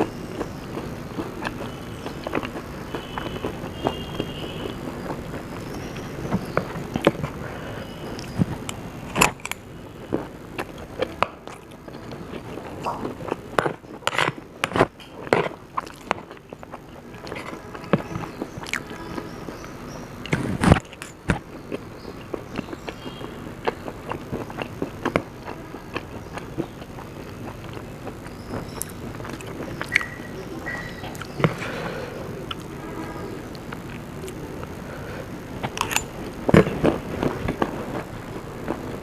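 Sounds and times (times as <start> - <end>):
chewing and crunching fried food: 0.0 - 32.8, 33.4 - 39.0.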